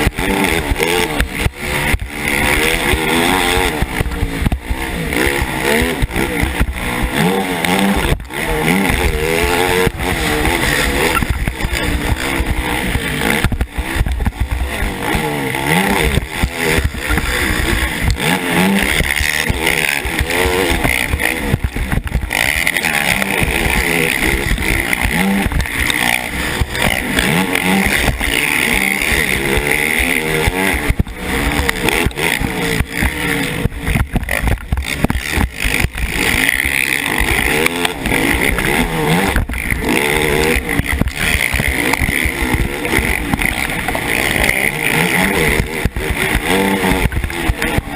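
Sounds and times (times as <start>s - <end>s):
quad engine revving: 0.0s - 47.9s.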